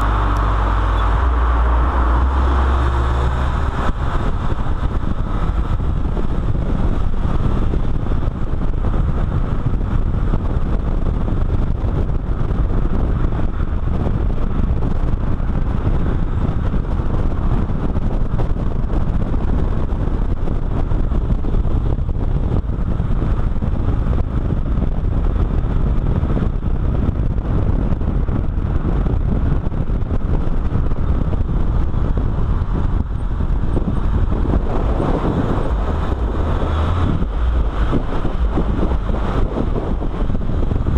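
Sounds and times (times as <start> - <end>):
road and tyre noise: 0.0 - 40.9
wind buffeting microphone: 0.0 - 40.9.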